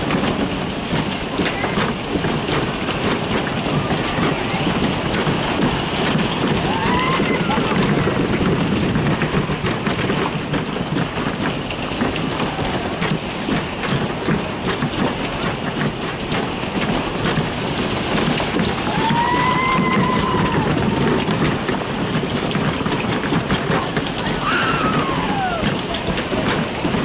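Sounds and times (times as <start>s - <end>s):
ride cars rumbling and rattling: 0.0s - 27.0s.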